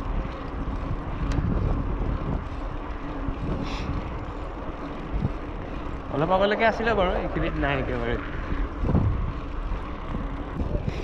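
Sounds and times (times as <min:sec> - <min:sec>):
bicycle tyres rolling on tarmac: 0:00.0 - 0:11.0
wind on microphone: 0:00.0 - 0:11.0.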